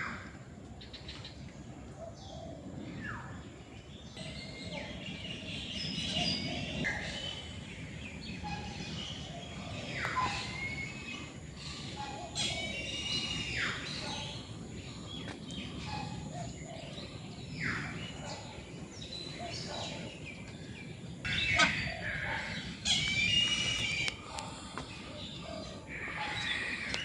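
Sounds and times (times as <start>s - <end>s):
steady background noise: 0.0s - 27.0s
birds whistling and chirping: 4.1s - 27.0s
harsh chattering bird calls: 4.2s - 27.0s.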